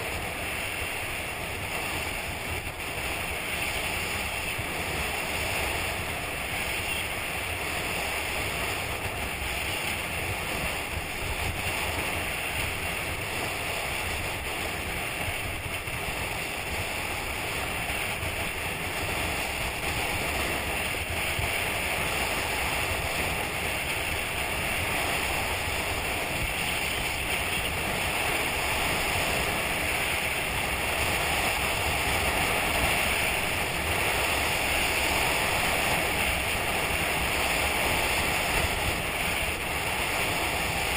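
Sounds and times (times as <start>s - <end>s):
skis scraping on snow: 0.0s - 40.9s
wind over microphone: 0.0s - 40.9s.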